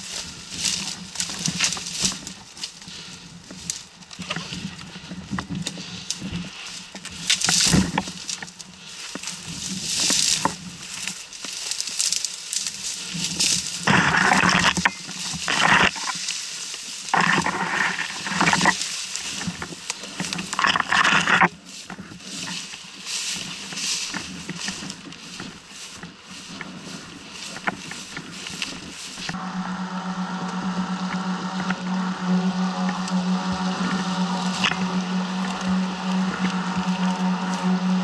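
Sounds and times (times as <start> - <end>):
leaves and twigs rustling: 0.0 - 38.0.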